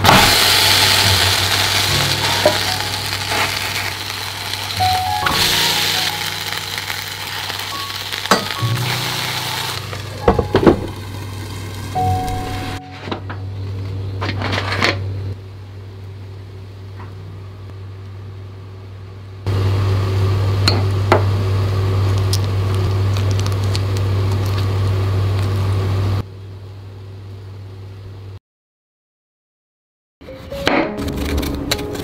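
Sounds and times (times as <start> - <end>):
low mechanical hum: 0.0 - 28.4.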